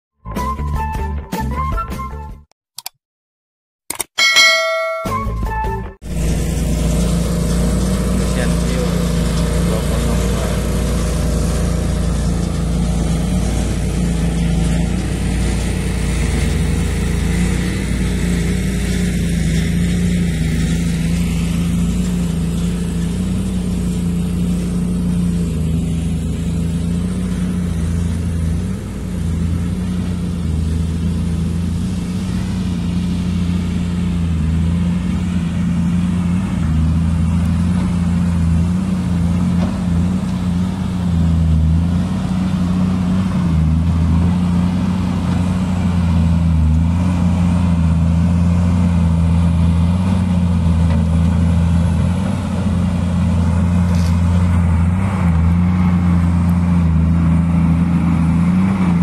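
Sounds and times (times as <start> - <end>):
diesel engine running: 5.3 - 59.0.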